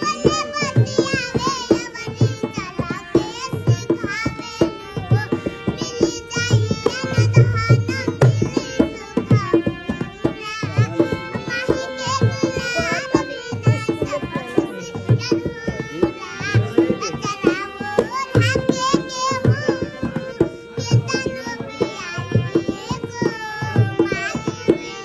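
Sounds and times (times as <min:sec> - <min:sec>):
girl singing: 0:00.0 - 0:25.0
tabla rhythm: 0:00.0 - 0:25.0.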